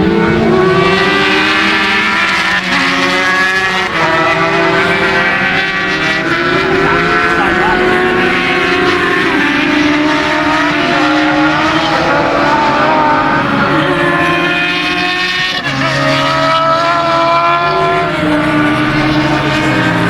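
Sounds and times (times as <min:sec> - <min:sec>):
racing motorcycle engines: 0:00.0 - 0:20.0.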